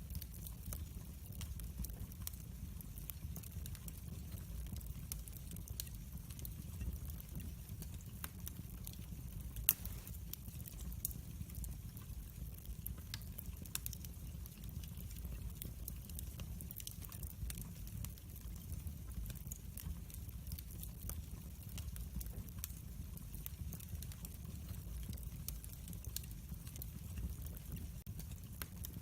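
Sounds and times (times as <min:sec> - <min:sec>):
fire burning in fireplace: 0:00.0 - 0:29.0
fire crackles and pops: 0:00.0 - 0:29.0.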